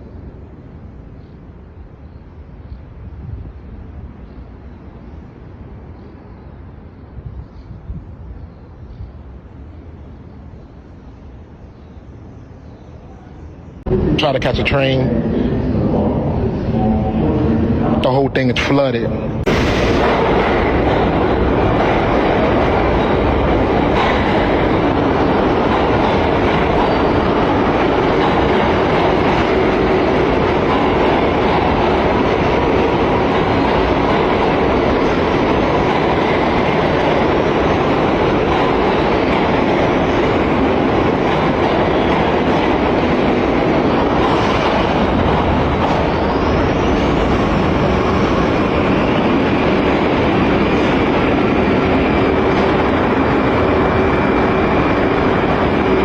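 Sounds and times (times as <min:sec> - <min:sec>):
subway train rumble and rattle: 0:00.0 - 0:56.0.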